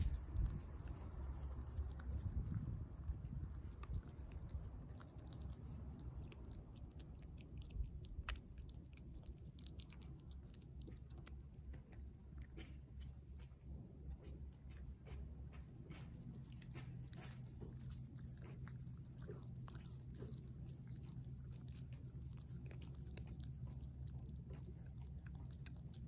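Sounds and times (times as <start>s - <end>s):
cat chewing: 0.0s - 26.0s.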